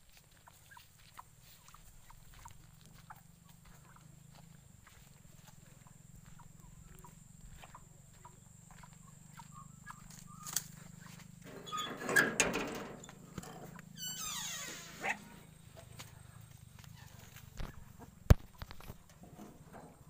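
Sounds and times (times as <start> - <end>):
farm animals calling: 0.0 - 20.0.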